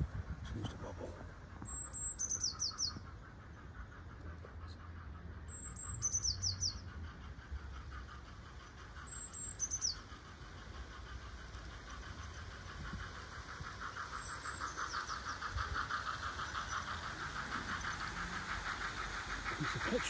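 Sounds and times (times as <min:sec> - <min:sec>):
model train wheels rattling: 0:00.0 - 0:20.0
bird singing: 0:01.0 - 0:10.9, 0:11.7 - 0:20.0.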